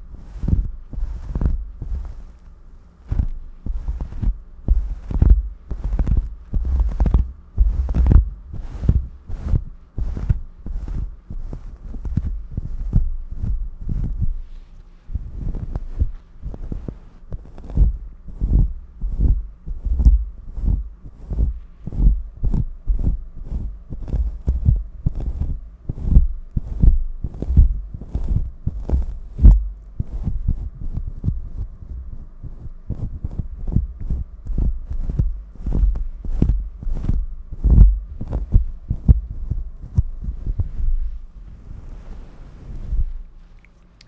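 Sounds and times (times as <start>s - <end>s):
brush rubbing microphone windscreen: 0.0s - 44.0s.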